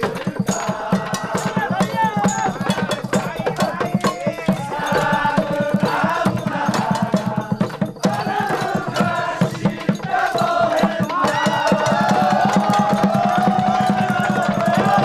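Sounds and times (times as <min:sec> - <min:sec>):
crowd clapping along: 0:00.0 - 0:15.0
upbeat music with singing: 0:00.0 - 0:15.0.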